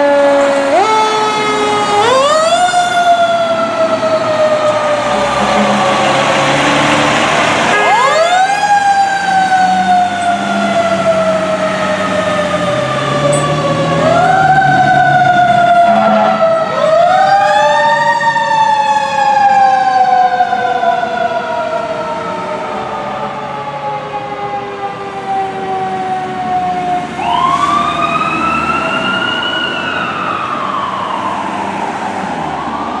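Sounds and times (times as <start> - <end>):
fire engine sirens wailing: 0.0 - 33.0
heavy truck engines rumbling: 0.0 - 33.0.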